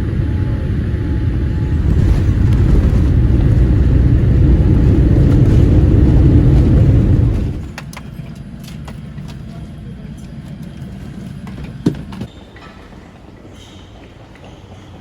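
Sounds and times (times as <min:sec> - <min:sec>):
airplane cabin rumble: 0:00.0 - 0:12.3.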